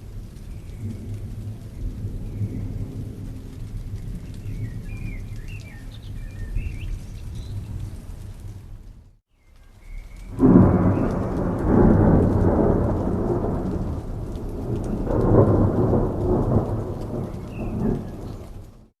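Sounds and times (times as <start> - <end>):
thunder rumbling: 0.0 - 9.1, 9.8 - 18.9
steady rain: 0.0 - 18.9.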